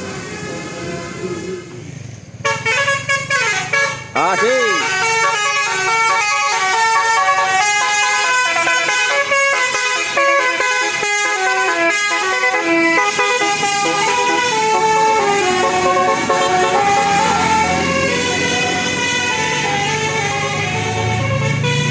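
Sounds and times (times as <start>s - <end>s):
bus horn playing a tune: 0.0s - 21.9s.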